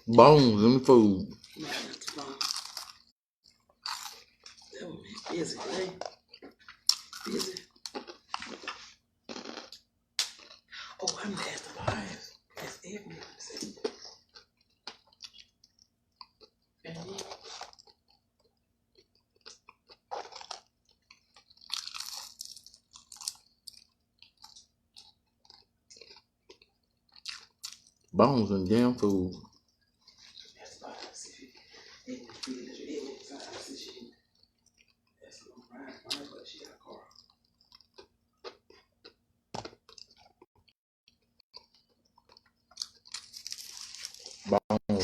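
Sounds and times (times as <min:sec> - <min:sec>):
chewing and crunching chicken: 0:02.1 - 0:05.2, 0:06.0 - 0:12.5, 0:13.1 - 0:28.1, 0:29.1 - 0:44.5.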